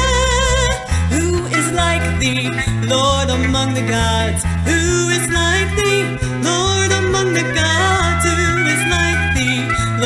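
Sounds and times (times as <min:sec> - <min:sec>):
instrumental accompaniment: 0:00.0 - 0:10.0
woman singing slow song: 0:00.0 - 0:10.0.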